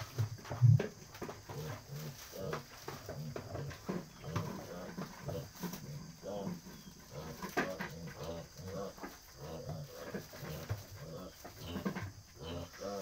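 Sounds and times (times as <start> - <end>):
piglets grunting: 1.5 - 13.0.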